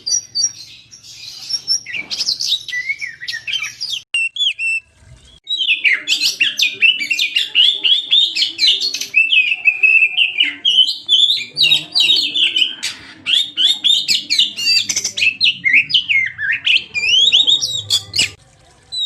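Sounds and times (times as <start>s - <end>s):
bird singing whistles and chirps: 0.0s - 18.4s.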